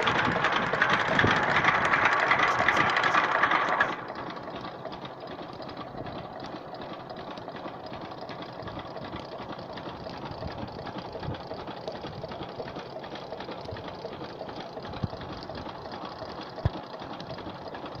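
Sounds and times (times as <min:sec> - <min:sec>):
diesel engine clattering: 0:00.0 - 0:18.0.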